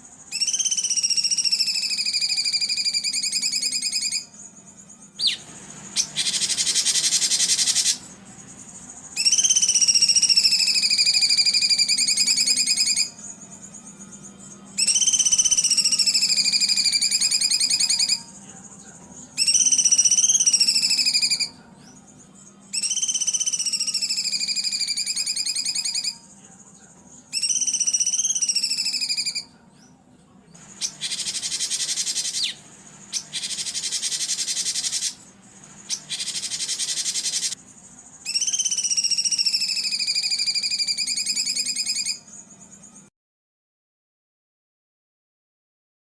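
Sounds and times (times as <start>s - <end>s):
songbird buzzy trills: 0.0s - 43.1s
songbird rasping phrases: 0.2s - 42.3s.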